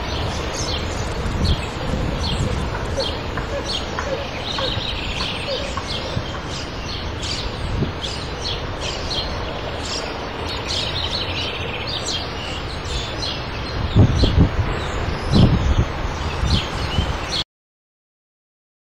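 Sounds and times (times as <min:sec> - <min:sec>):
small birds chirping: 0:00.0 - 0:17.4
steady outdoor noise: 0:00.0 - 0:17.4.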